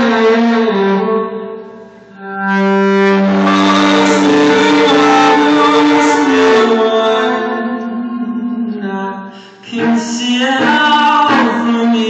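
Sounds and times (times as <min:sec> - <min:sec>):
bowed strings holding long notes: 0:00.0 - 0:08.7, 0:09.7 - 0:12.0.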